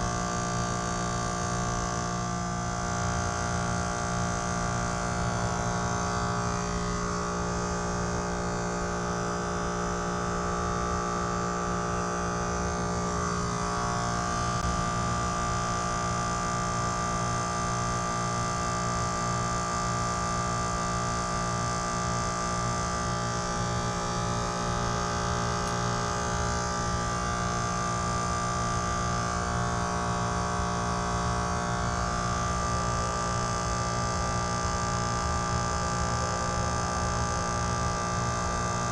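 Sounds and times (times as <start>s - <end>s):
compressor hum with whine: 0.0s - 38.9s.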